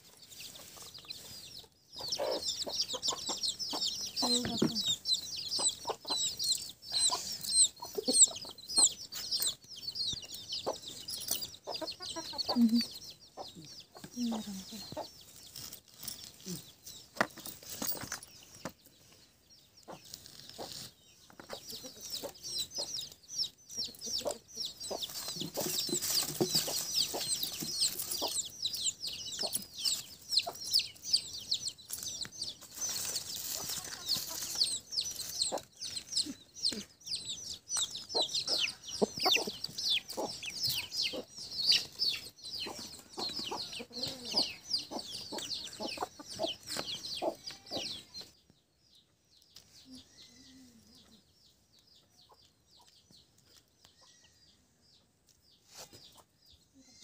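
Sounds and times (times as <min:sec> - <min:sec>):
chickens clucking: 0:00.0 - 0:48.4.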